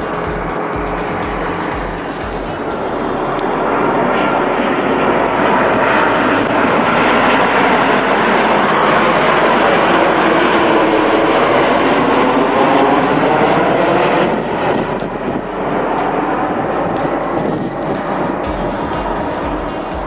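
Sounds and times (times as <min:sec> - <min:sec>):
jet airliner engines roaring: 0:00.0 - 0:19.9.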